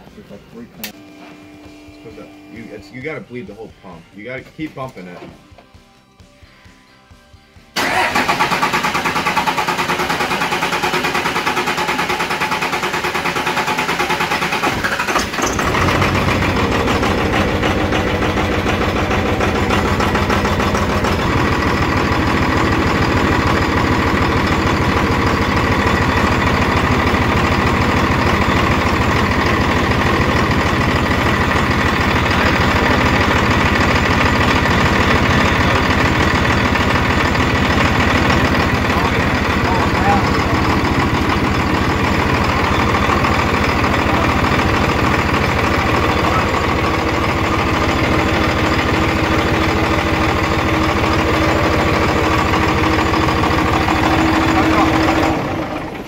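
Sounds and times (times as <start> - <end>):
diesel engine cranking on starter: 7.8 - 56.0
diesel engine idling: 7.8 - 56.0.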